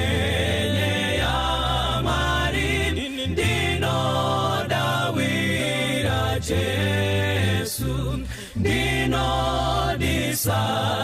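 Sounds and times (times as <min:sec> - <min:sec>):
congregation singing a hymn: 0:00.0 - 0:11.0.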